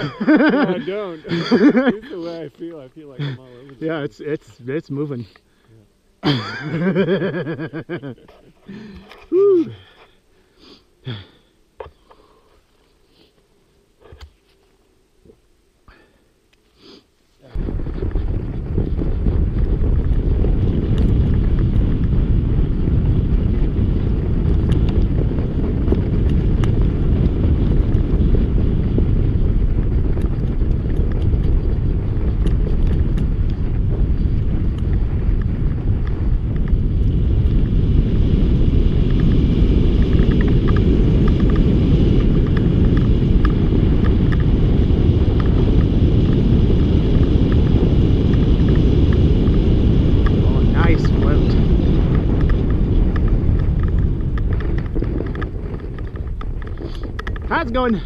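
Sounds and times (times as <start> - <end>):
snow bike engine rumble: 0.0 - 58.0.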